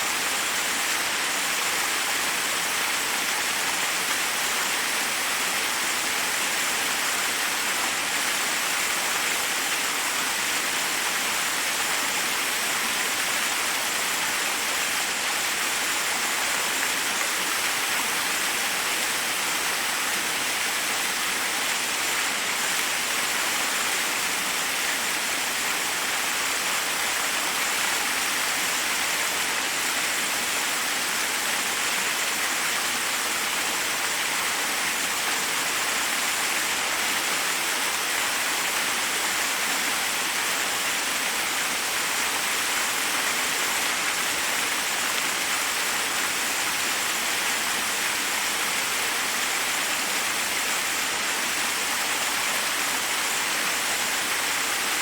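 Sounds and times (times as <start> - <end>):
waterfall cascading over rocks: 0.0 - 55.0.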